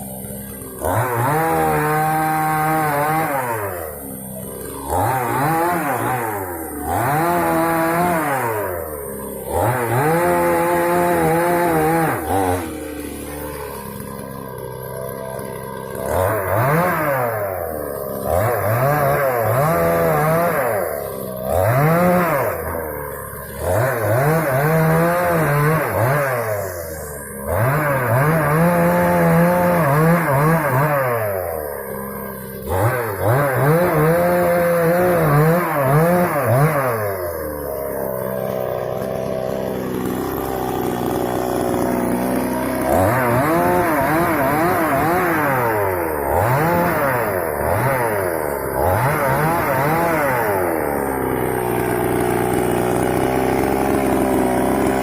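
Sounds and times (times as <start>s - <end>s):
chainsaw revving cutting wood: 0.0s - 55.0s.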